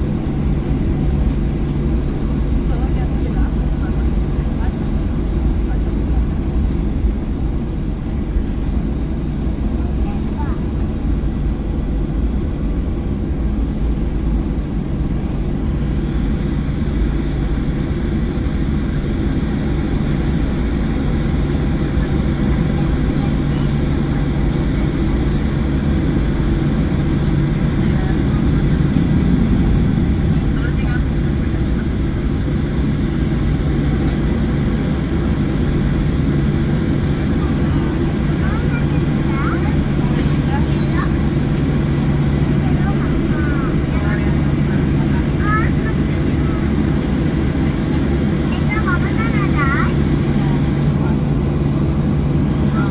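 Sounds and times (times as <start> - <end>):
jet engines rumbling and whining: 0.0 - 52.9.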